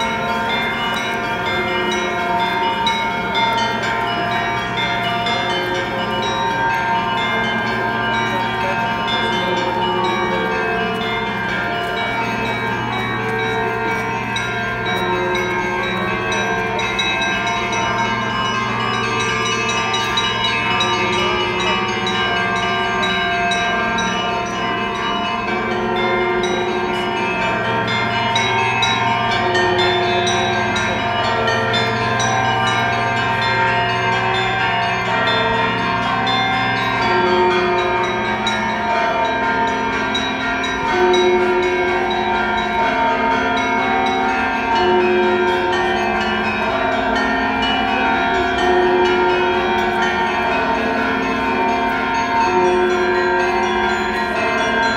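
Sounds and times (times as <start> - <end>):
church bells ringing a peal: 0.0 - 54.9.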